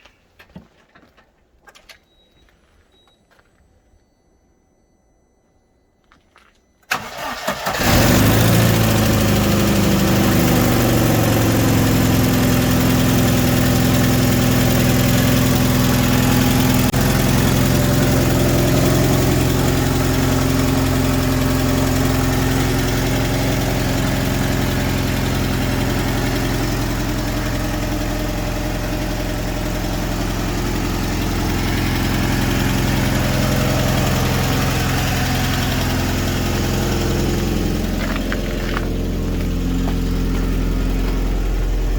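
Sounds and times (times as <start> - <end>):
car engine cranking and idling: 6.4 - 41.9.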